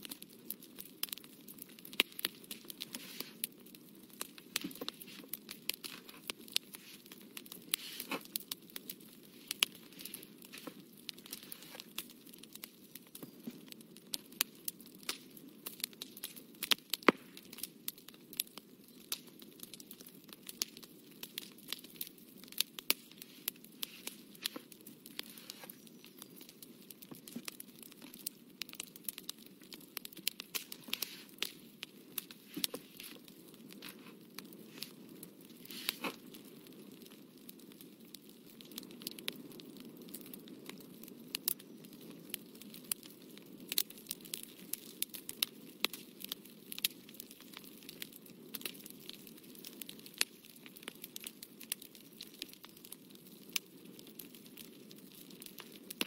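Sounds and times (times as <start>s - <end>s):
irregular crackling and clicking: 0.0s - 56.0s.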